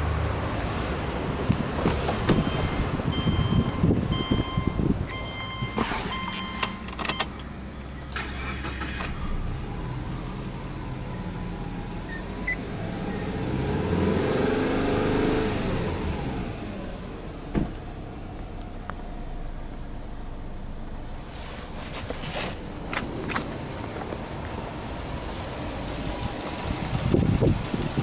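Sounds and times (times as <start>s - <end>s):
car engine cranking and idling: 1.4s - 28.0s.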